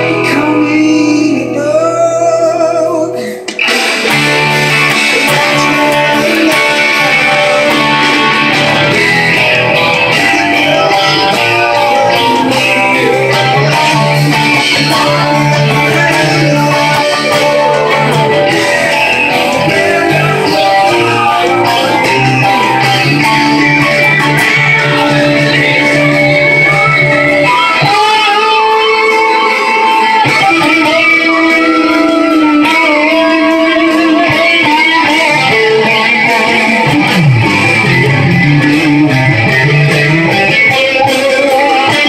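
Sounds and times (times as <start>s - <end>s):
rock band with electric guitar: 0.0s - 42.0s
sustained bass notes: 0.0s - 42.0s.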